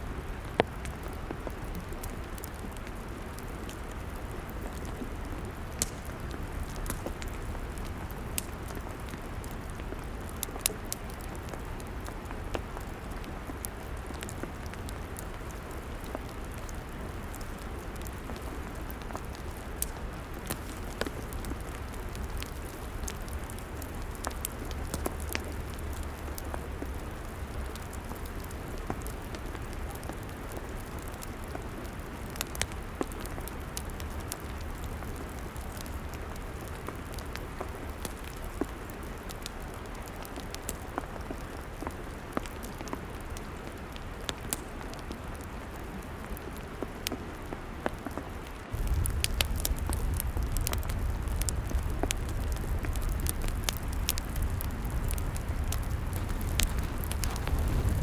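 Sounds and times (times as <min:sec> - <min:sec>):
crackling log fire: 0:00.0 - 0:58.0.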